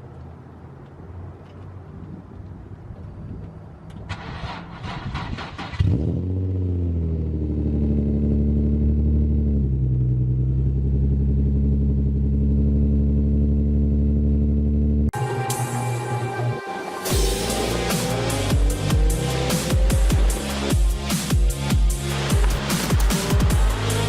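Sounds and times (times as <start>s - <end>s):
car engine cranking and idling: 0.1s - 15.2s, 17.1s - 24.0s.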